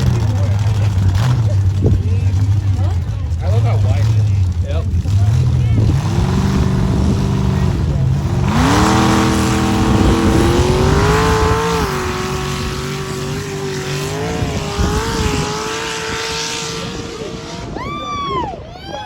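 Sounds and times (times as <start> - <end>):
truck engine revving: 0.0 - 17.8.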